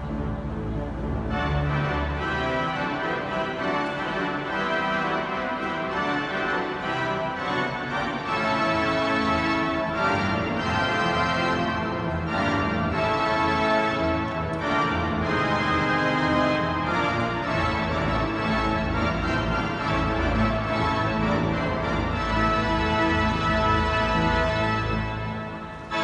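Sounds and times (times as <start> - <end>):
pipe organ playing full chords: 0.0 - 26.0.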